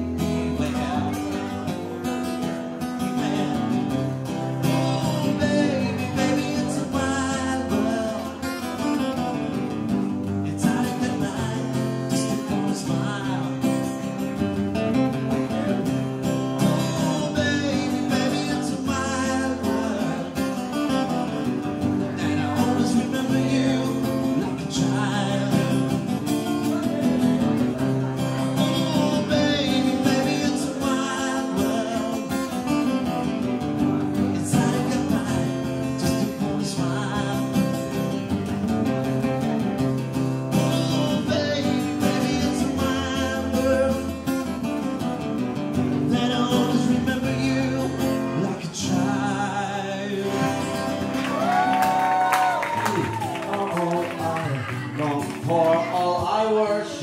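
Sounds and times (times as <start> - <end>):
acoustic guitar picking notes: 0.0 - 57.0
acoustic guitar strumming chords: 0.0 - 57.0.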